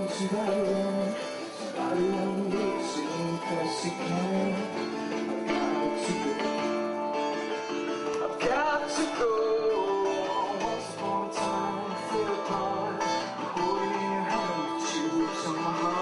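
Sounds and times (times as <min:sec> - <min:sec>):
man and woman singing: 0:00.0 - 0:07.0, 0:08.2 - 0:16.0
guitar playing: 0:00.0 - 0:16.0.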